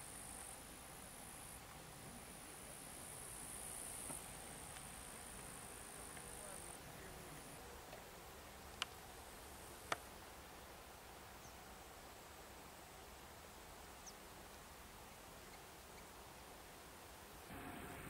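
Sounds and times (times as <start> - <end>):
insects chirring: 0.0 - 17.5.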